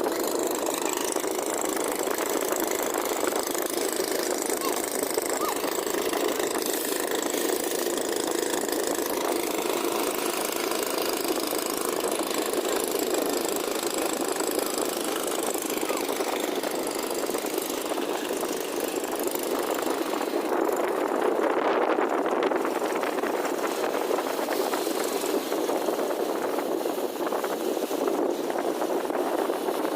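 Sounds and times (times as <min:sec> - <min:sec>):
boat engine chugging: 0:00.0 - 0:29.9.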